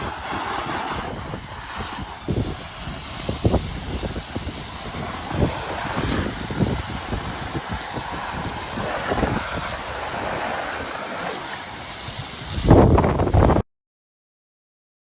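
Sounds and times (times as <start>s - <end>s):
wind buffeting microphone: 0.0s - 11.0s, 11.7s - 13.6s.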